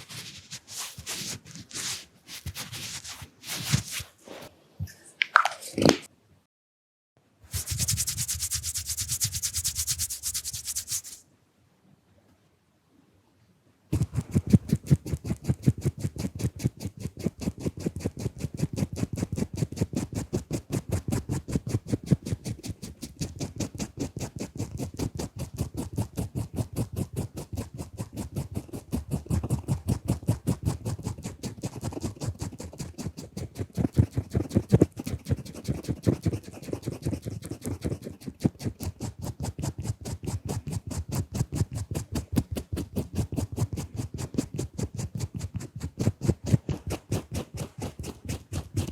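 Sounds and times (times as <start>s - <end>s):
tool scratching on camera lens: 0.0s - 4.1s, 7.5s - 11.2s, 14.0s - 48.9s.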